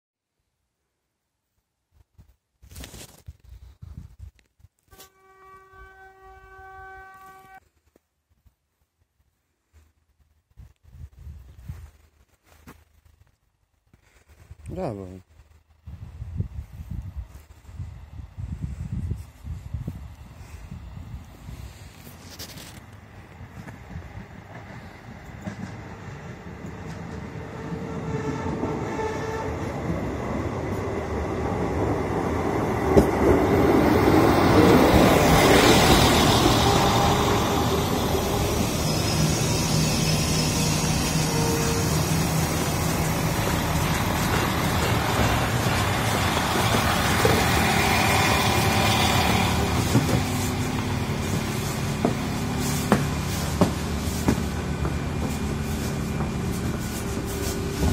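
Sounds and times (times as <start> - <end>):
railbus engine and wheels: 3.7 - 57.9.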